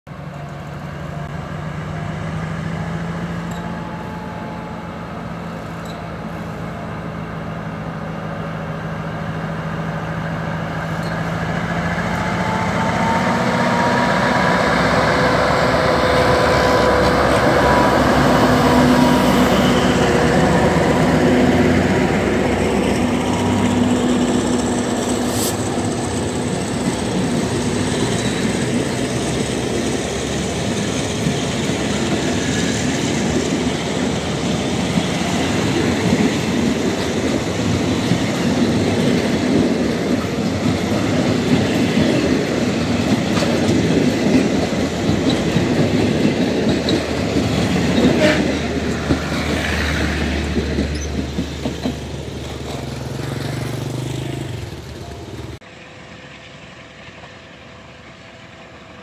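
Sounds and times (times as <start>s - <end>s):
diesel locomotive engine drone: 0.1s - 59.0s
train coaches rolling: 0.1s - 59.0s.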